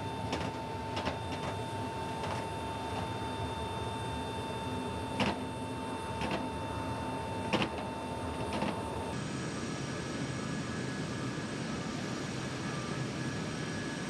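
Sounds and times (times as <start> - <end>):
mechanical hum with high whine: 0.0 - 14.0.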